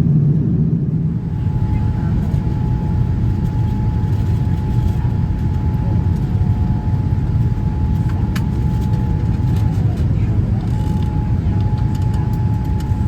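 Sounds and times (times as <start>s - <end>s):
aircraft cabin engine rumble: 0.0s - 13.0s
thin steady whine: 0.0s - 13.0s.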